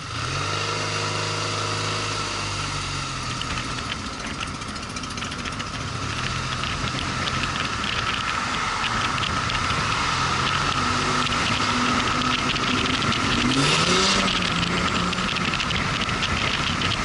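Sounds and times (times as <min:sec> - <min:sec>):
motorcycle engine running: 0:00.0 - 0:17.0
fast ticking rattle: 0:03.3 - 0:17.0.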